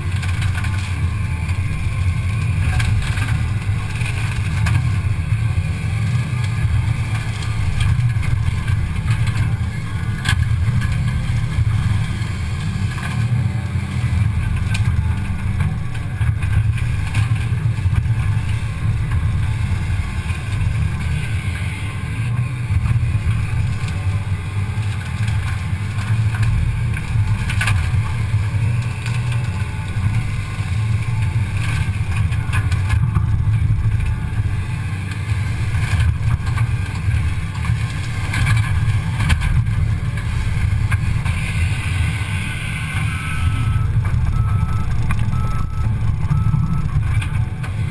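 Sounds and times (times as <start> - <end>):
diesel engine rumbling: 0.0 - 47.9.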